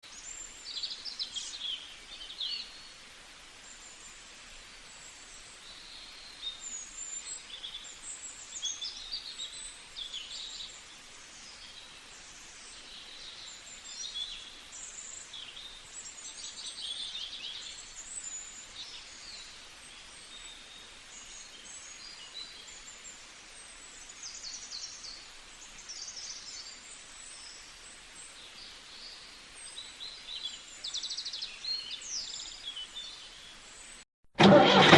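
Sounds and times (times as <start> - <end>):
steady background hiss: 0.1 - 34.0.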